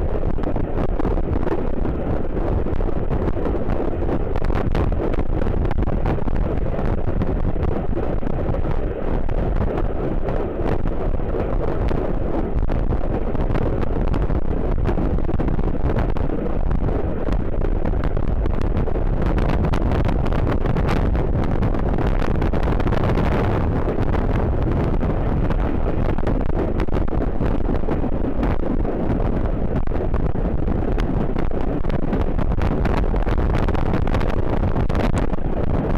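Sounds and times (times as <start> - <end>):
steady low rumble: 0.0 - 35.9
wind buffeting microphone: 0.0 - 35.9.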